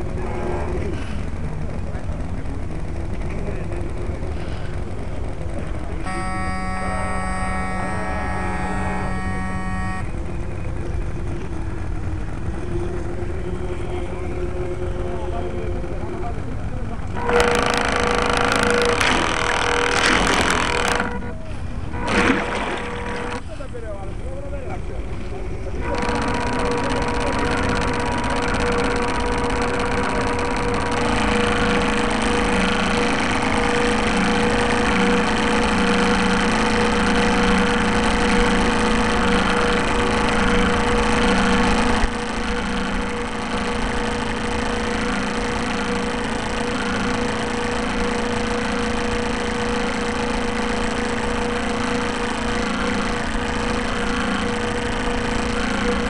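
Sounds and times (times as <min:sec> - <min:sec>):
model boat motor whining: 0:00.0 - 0:56.0.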